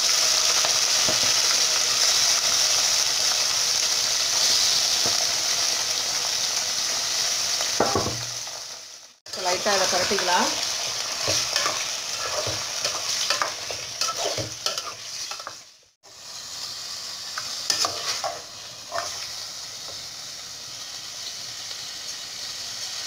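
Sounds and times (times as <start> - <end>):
livers sizzling in hot oil: 0.0 - 23.0.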